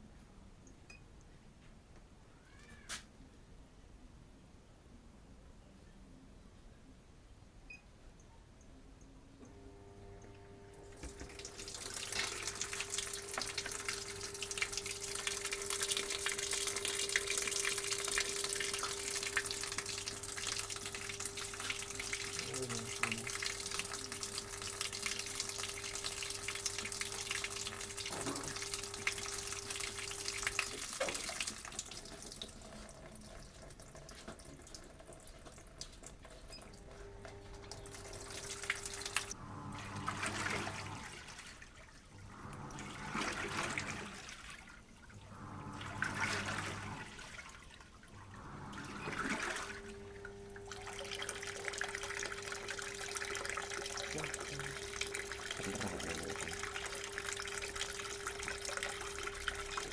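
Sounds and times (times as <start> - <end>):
washing machine hum: 9.4 - 59.9
washing machine water rushing: 10.7 - 59.9.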